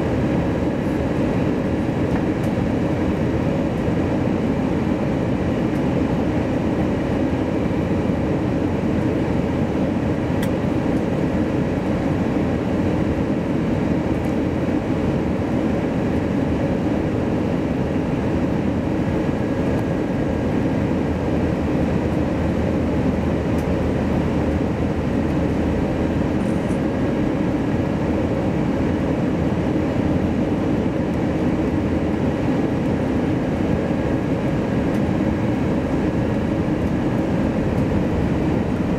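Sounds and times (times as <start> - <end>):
airliner cabin engine roar: 0.0 - 38.9.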